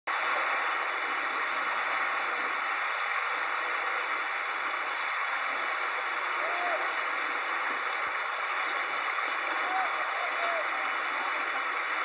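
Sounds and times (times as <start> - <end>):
water and wind hiss from speakers: 0.1 - 12.0.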